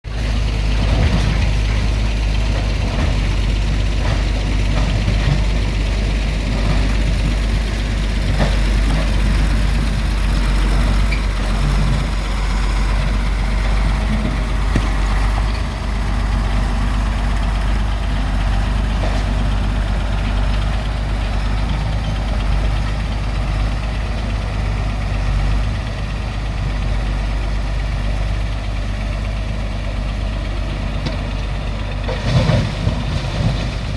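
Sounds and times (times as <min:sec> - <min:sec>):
excavator diesel engine rumbling: 0:00.0 - 0:33.9.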